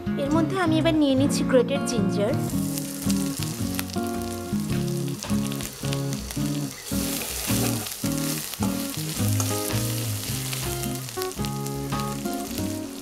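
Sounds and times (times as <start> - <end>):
background music with melody: 0.0 - 13.0
spices sizzling in hot oil: 2.4 - 13.0.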